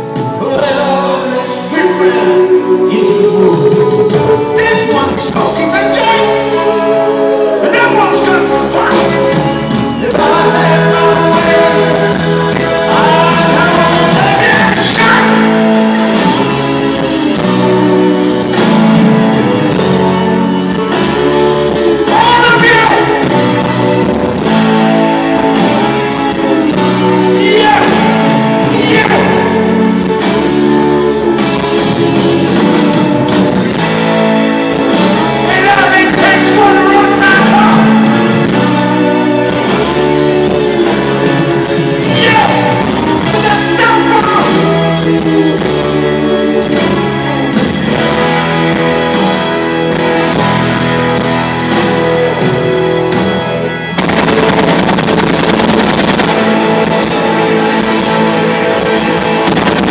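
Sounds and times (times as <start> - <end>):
person singing: 0.0 - 49.1
live rock band playing: 0.0 - 59.9.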